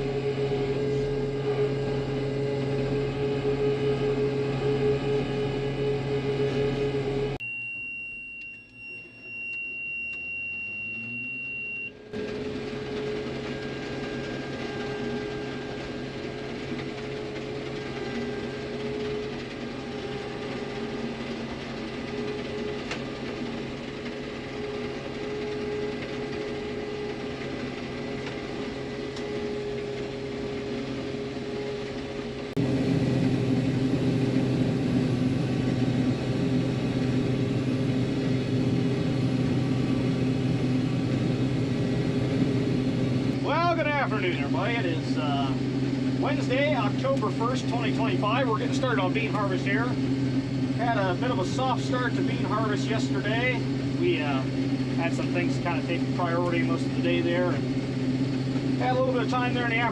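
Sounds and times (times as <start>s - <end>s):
combine harvester droning: 0.0s - 7.4s, 8.3s - 59.9s
rising whine: 0.0s - 59.9s.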